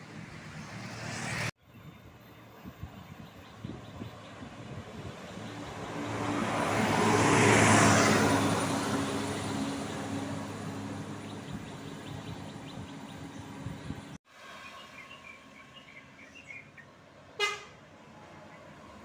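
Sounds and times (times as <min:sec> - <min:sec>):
bus passing by: 0:00.0 - 0:19.0.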